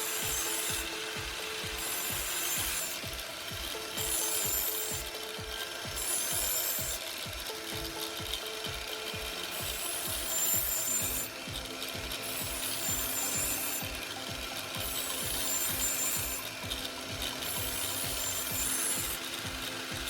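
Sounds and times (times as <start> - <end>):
knife grinding on angle grinder: 0.0 - 20.0.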